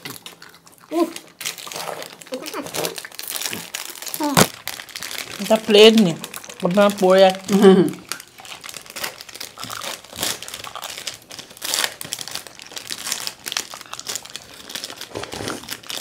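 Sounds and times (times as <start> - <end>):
wrappers crinkling: 0.0 - 16.0.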